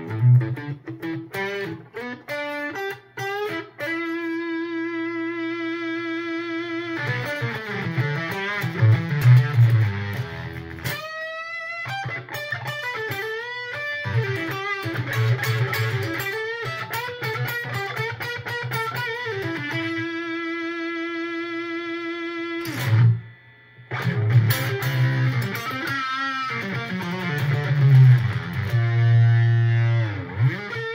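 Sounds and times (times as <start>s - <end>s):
fuzz electric guitar: 0.0s - 30.9s.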